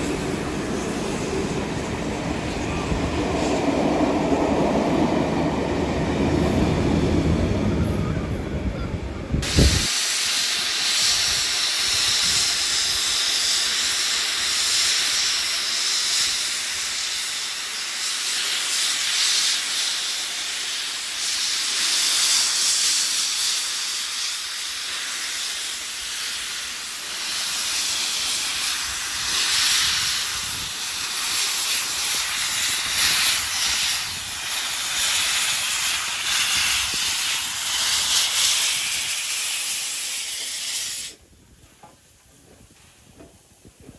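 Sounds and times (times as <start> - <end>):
steam hissing: 0.0 - 5.4, 9.4 - 41.4.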